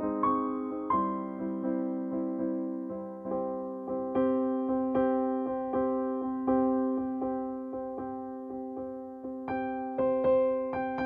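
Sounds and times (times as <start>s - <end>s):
slow piano notes: 0.0s - 11.0s.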